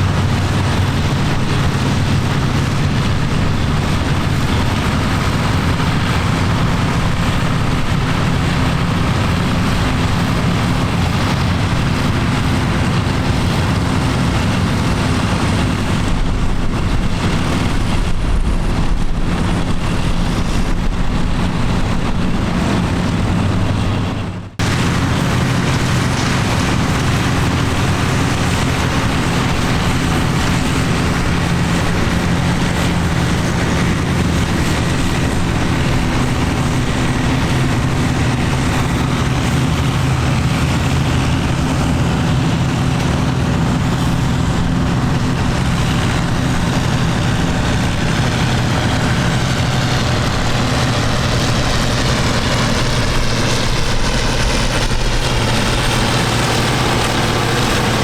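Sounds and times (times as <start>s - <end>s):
another engine running: 0.0s - 58.0s
tractor engine running: 0.0s - 58.0s.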